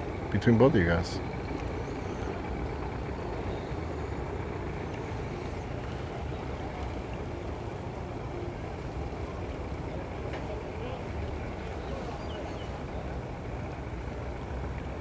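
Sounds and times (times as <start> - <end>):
engine running with low rumble: 0.0 - 15.0.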